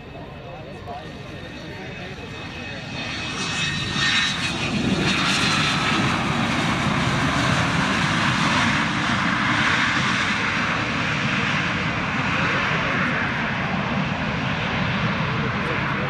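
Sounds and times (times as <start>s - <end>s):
jet engine rolling past: 0.0s - 16.0s.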